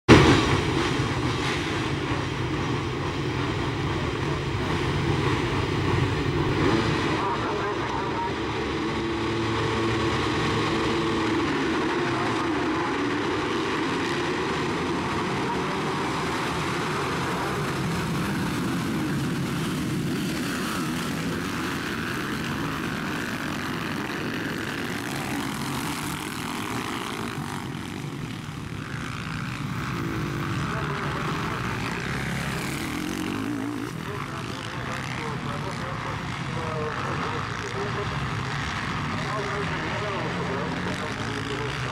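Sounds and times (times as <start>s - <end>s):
motocross bikes racing: 0.1s - 41.9s.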